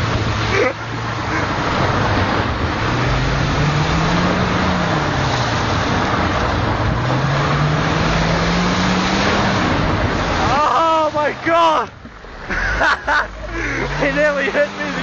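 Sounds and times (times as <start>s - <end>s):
car engine revving: 0.0s - 15.0s
wind and tyre noise: 0.0s - 15.0s.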